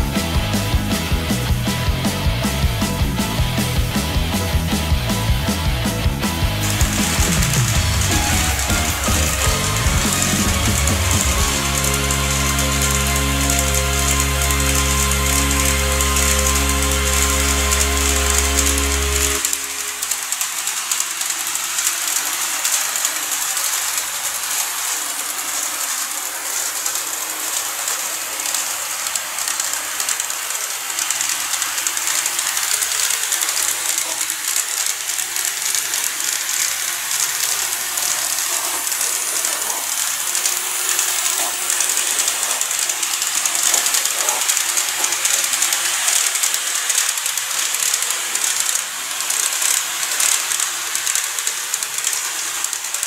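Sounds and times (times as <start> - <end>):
model train wheels rattling: 6.5 - 53.0.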